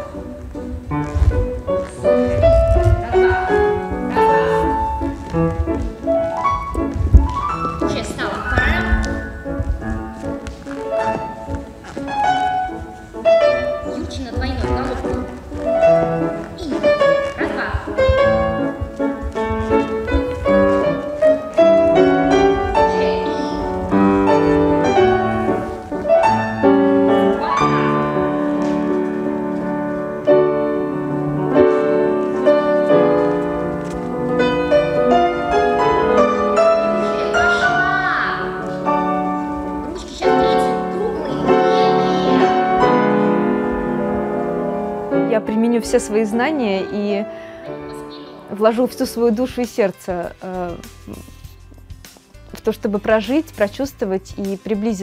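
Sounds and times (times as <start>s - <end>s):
solo classical piano: 0.0s - 48.5s.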